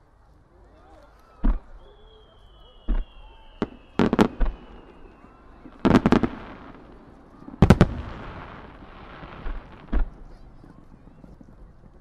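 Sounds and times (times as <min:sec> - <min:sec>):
fireworks bursting: 0:01.2 - 0:12.0.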